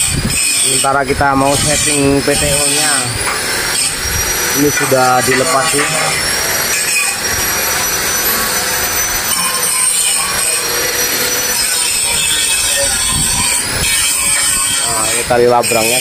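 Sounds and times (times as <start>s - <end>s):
high whine: 0.1s - 15.4s
power tool rasping: 0.3s - 16.0s.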